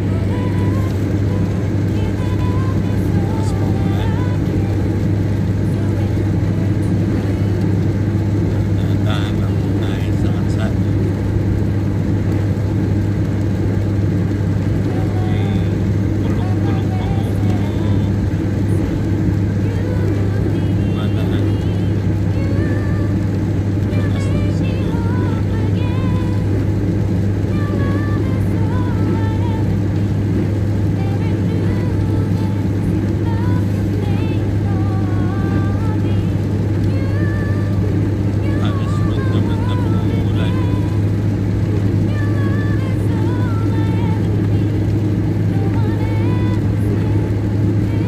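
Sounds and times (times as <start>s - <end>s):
car engine and road drone: 0.0s - 48.0s
faint music: 0.0s - 48.0s.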